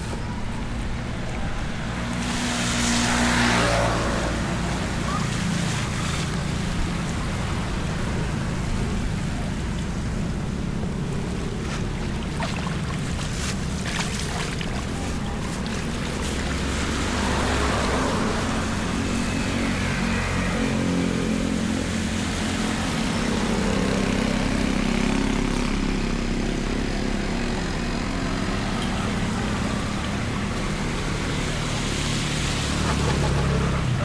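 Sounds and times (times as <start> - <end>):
vehicle engine running: 0.0 - 34.0
water washing: 0.0 - 34.0.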